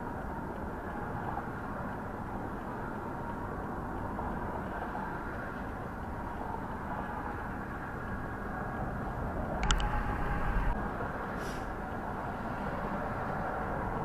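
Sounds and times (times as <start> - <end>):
vehicle road noise rumble: 0.0 - 14.0.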